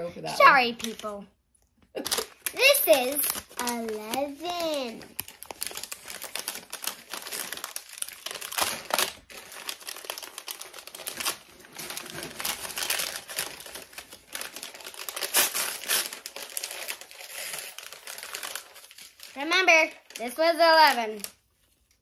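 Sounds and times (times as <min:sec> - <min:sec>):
paper bag crinkling and tearing: 0:02.0 - 0:21.6.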